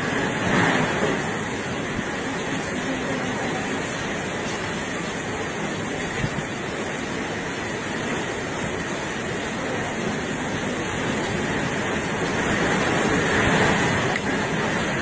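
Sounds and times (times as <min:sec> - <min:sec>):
heavy rain: 0:00.0 - 0:15.0
strong wind: 0:00.0 - 0:15.0.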